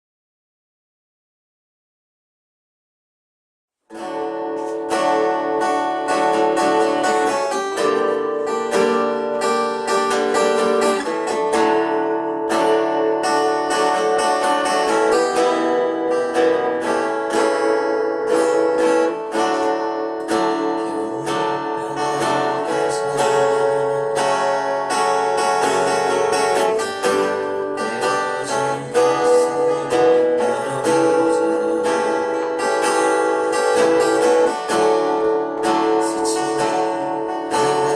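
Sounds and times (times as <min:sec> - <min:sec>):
acoustic guitar strumming: 0:03.9 - 0:37.9.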